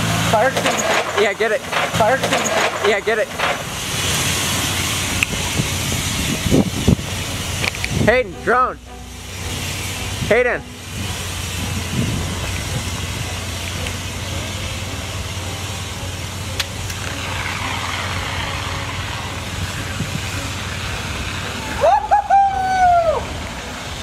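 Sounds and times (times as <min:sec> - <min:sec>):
fire extinguisher hissing: 0:00.0 - 0:22.1
steady low rumble: 0:01.4 - 0:22.0.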